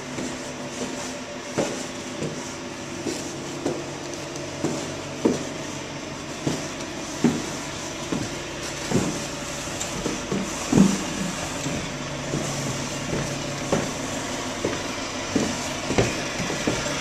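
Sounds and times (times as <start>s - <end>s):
footsteps on stairs and hallway: 0.0s - 17.0s.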